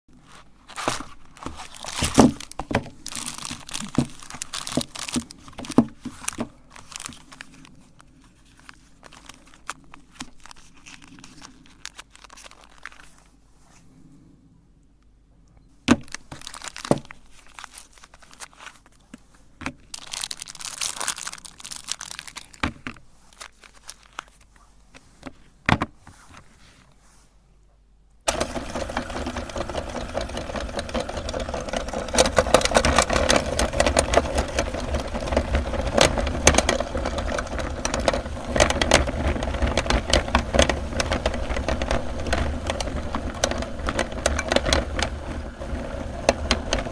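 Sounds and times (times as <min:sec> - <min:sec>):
soap wrapper crinkling and tearing: 0:00.7 - 0:13.4, 0:16.0 - 0:25.2, 0:29.4 - 0:46.0.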